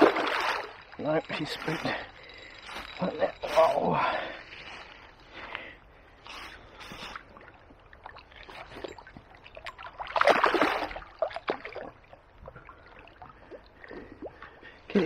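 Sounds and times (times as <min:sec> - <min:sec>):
fish splashing and thrashing: 0:00.0 - 0:04.0, 0:06.5 - 0:14.9.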